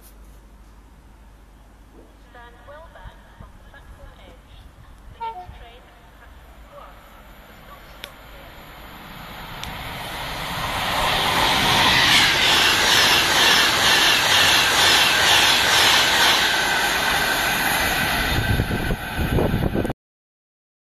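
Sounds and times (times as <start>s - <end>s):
train passing at speed: 2.4s - 19.9s.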